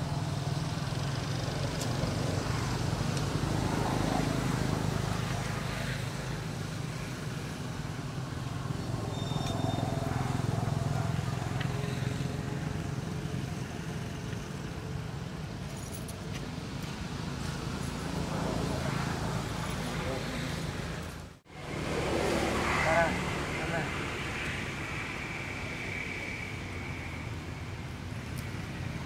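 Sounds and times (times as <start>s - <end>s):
low rumble of road traffic: 0.0s - 29.0s.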